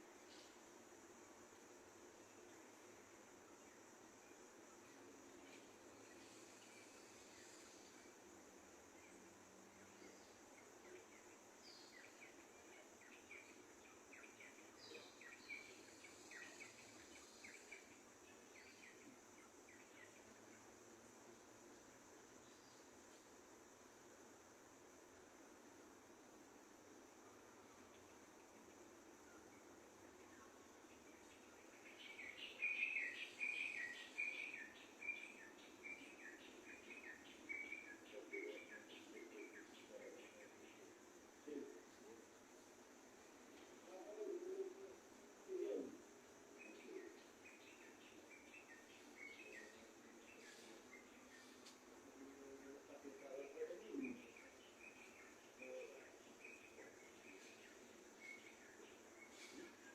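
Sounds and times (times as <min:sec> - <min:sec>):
small birds chirping faintly: 0:00.0 - 0:59.9
steady high-pitched hiss: 0:00.0 - 0:59.9.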